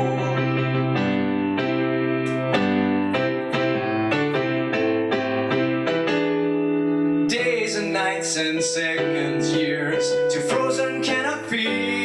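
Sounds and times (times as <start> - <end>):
electric piano playing chords: 0.0 - 12.0.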